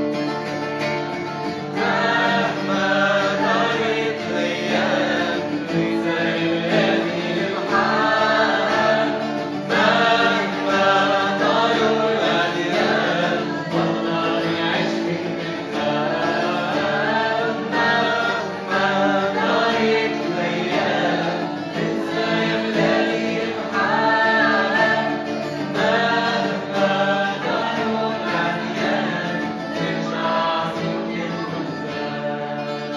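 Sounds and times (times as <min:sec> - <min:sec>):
woman singing with vibrato: 0:01.7 - 0:15.1, 0:15.7 - 0:32.3.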